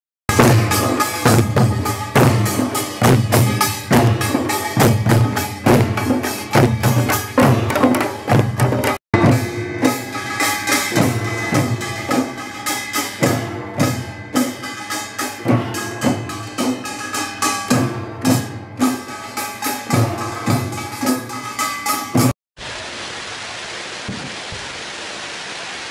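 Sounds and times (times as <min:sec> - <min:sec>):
band drumming fast rhythm: 0:00.3 - 0:22.3.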